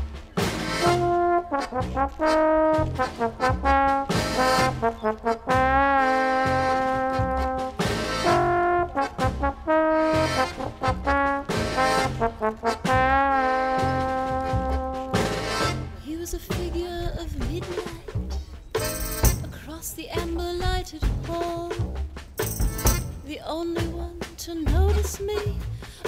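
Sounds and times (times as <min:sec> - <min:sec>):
instrumental music: 0:00.0 - 0:26.0.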